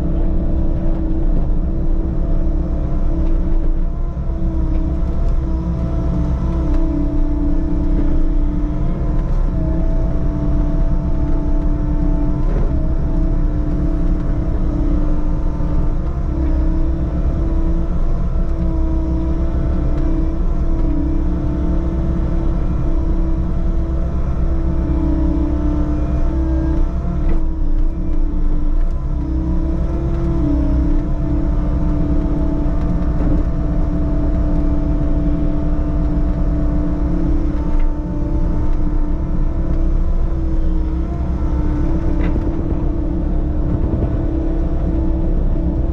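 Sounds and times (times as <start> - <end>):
diesel engine droning under load: 0.0 - 45.9.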